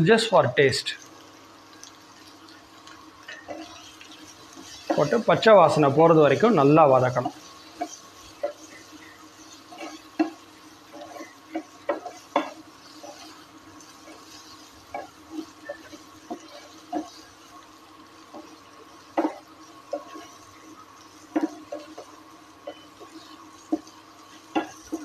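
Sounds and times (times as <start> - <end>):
frying sizzle: 0.0 - 25.0
spatula scraping frying pan: 1.8 - 25.0.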